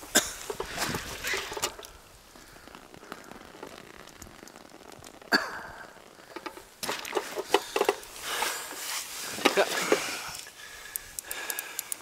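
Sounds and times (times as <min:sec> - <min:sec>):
crackly rustling: 0:00.0 - 0:12.0.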